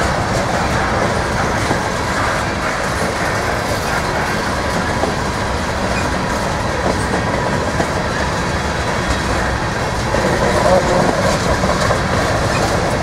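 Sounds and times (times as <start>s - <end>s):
train wheels rumbling on rail: 0.0s - 13.0s
wheels clacking over rail joints: 0.0s - 13.0s.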